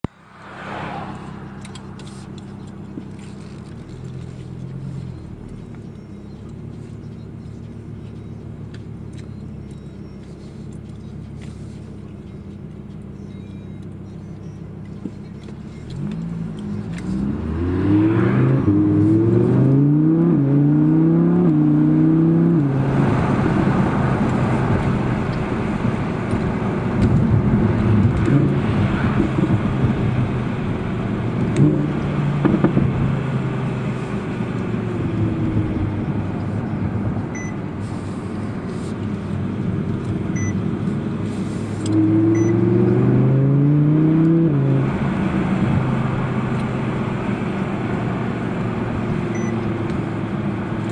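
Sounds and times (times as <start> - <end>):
sports car engine accelerating: 0.0 - 50.9
tyre and road noise: 0.0 - 50.9.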